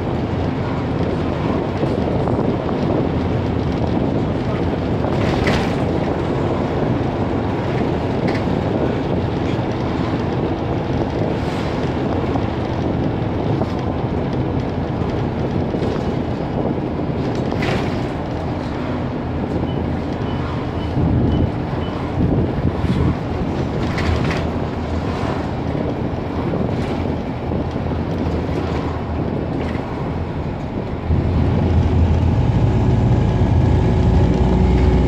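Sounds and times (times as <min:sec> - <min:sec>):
bus engine drone: 0:00.0 - 0:35.0
road noise: 0:00.0 - 0:35.0.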